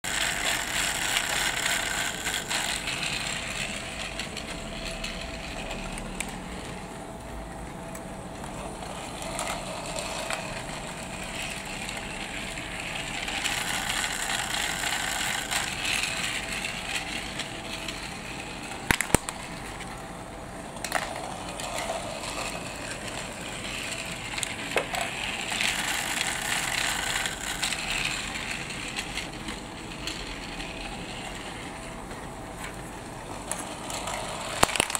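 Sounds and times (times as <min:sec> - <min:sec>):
wheels rattling over track: 0:00.0 - 0:06.8, 0:08.5 - 0:20.0, 0:20.7 - 0:34.9
toy motor whirring: 0:00.0 - 0:06.9, 0:08.4 - 0:20.0, 0:20.7 - 0:32.0, 0:33.3 - 0:34.9.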